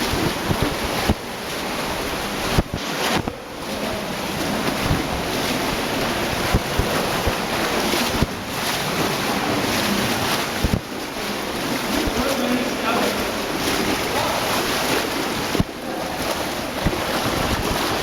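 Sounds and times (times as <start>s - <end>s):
legs wading through water: 0.0s - 18.0s
stream rushing: 0.0s - 18.0s.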